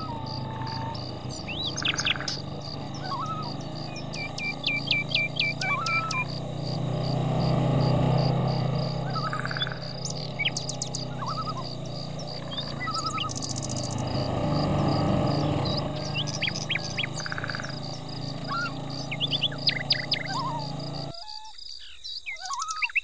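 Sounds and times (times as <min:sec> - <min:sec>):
high insect-like pulsing: 0:00.0 - 0:21.3
songbirds chirping and trilling: 0:00.0 - 0:23.0.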